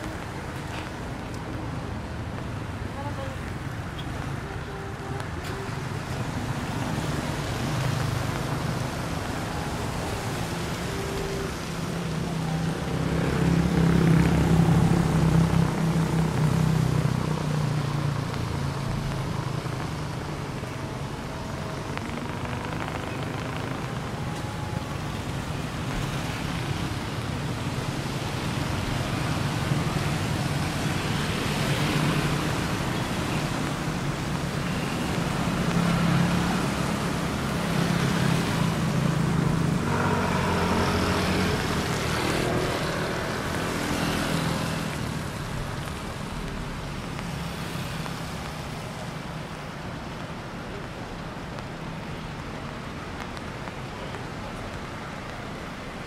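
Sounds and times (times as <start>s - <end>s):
vehicles passing on wet road: 0.0s - 56.0s.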